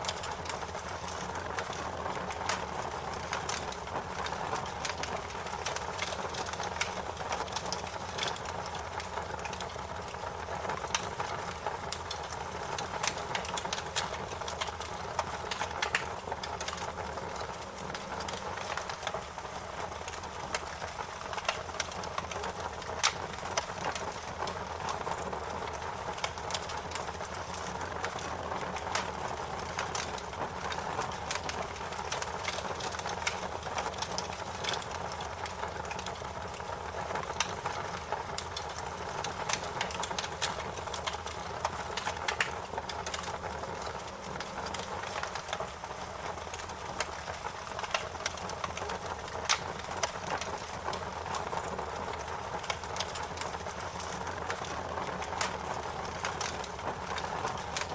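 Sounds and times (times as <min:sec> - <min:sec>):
fire crackling: 0:00.0 - 0:57.9.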